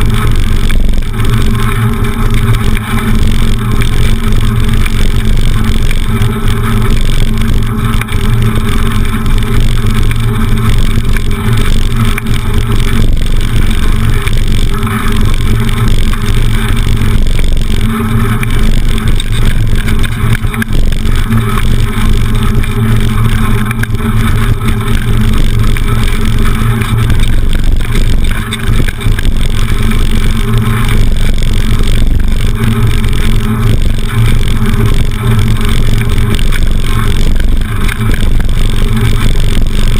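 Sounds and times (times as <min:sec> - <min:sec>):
bicycle rattling over cobblestones: 0:00.0 - 0:39.9.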